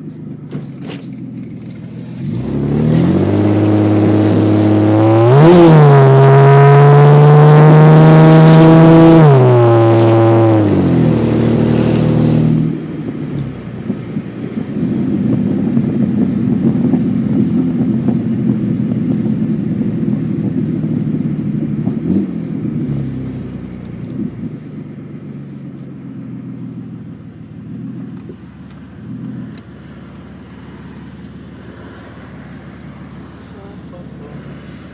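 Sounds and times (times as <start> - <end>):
loud raw car engine running: 0.0 - 34.9.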